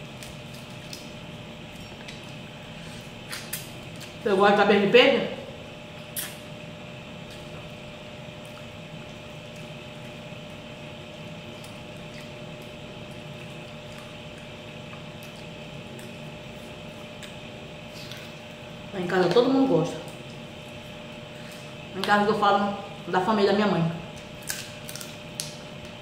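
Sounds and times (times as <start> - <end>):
background hum with tone: 0.0 - 26.0.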